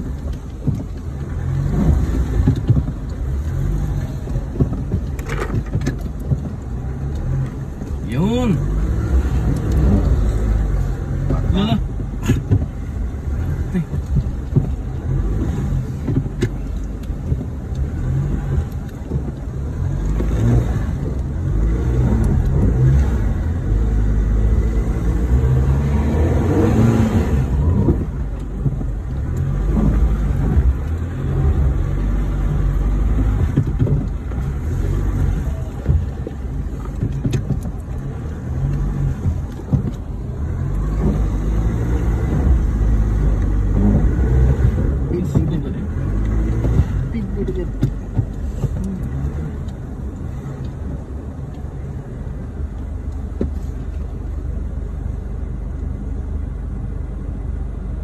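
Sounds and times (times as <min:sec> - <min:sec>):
vehicle engine rumble from inside cab: 0:00.0 - 0:58.0.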